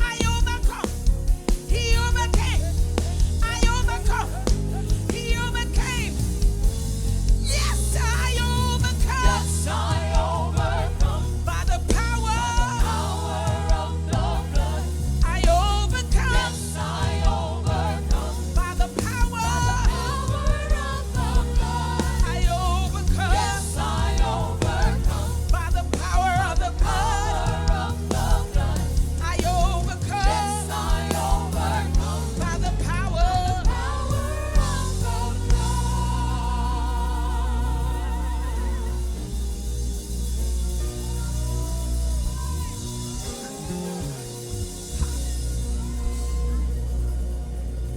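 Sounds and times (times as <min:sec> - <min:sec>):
band playing: 0:00.0 - 0:47.0
gospel singing: 0:00.0 - 0:47.9.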